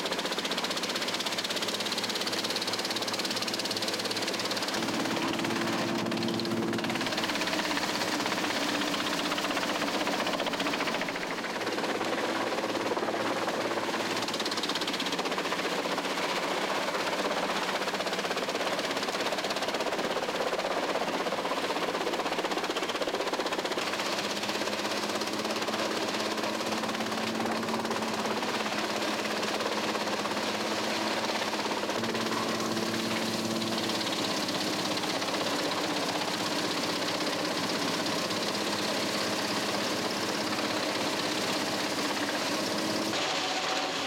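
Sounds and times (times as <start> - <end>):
engine drone: 0.0 - 44.0
wood chipper clattering: 0.1 - 20.0, 22.5 - 44.0.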